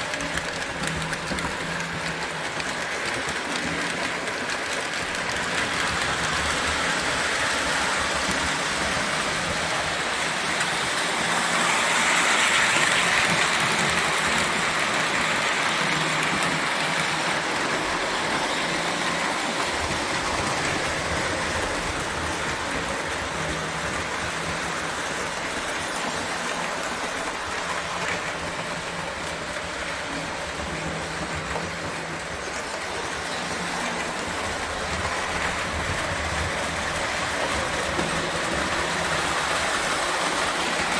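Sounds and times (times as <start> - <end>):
toy electric train running: 0.0 - 40.9.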